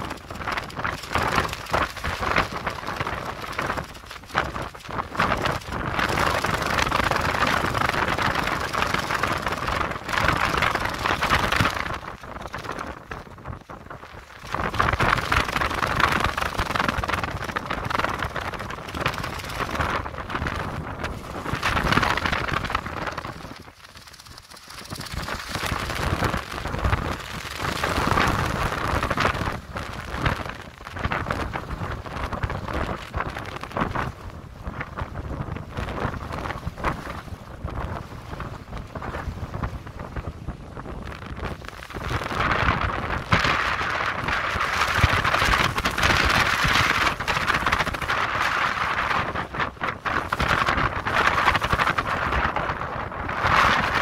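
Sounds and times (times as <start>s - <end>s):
plastic sheeting flapping: 0.0s - 54.0s
wind buffeting microphone: 0.0s - 54.0s.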